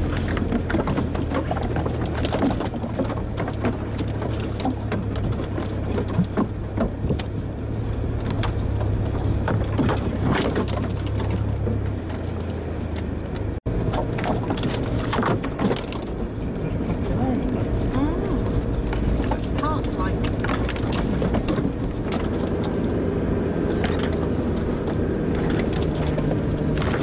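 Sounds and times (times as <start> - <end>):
branches scraping against vehicle: 0.0 - 27.0
car engine running: 0.0 - 27.0
vehicle body rattling: 0.0 - 27.0.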